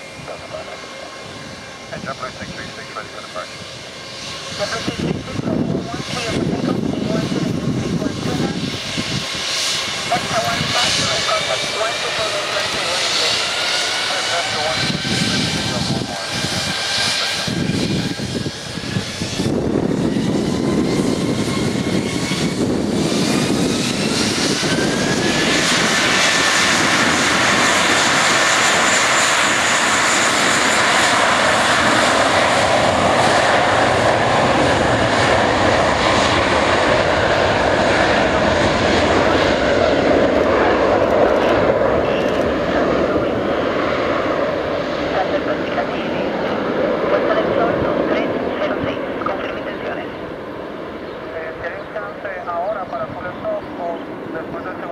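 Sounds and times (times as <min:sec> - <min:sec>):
jet engines spooling up: 0:00.0 - 0:54.9
jet takeoff thrust roar: 0:00.0 - 0:54.9.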